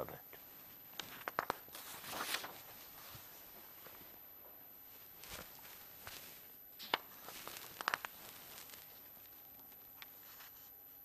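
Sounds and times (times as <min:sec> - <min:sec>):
paper rustling: 0:01.0 - 0:04.1, 0:05.0 - 0:10.7.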